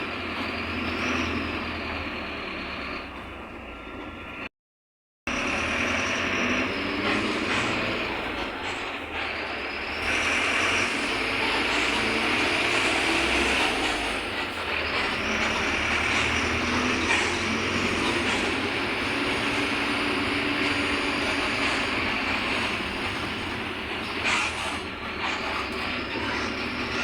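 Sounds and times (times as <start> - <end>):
bus diesel engine running: 0.0 - 4.5, 5.3 - 27.0
road rumble: 0.0 - 4.5, 5.3 - 27.0.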